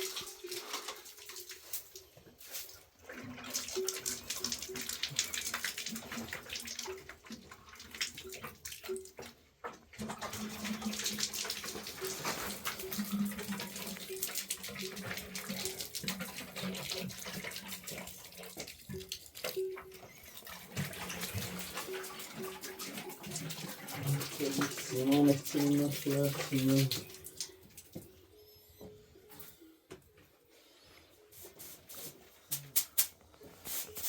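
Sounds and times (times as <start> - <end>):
water running and splashing: 0.0 - 28.0.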